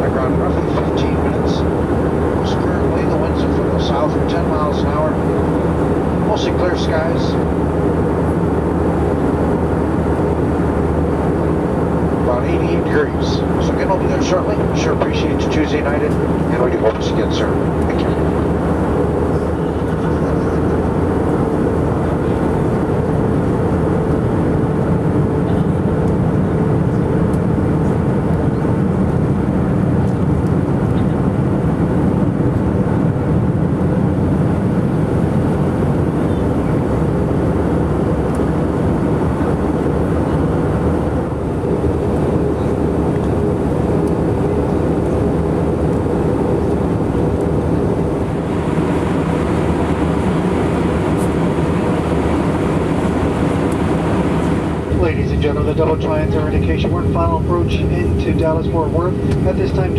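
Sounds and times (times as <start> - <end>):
aircraft cabin engine drone: 0.0 - 59.9
faint hum: 0.0 - 59.9.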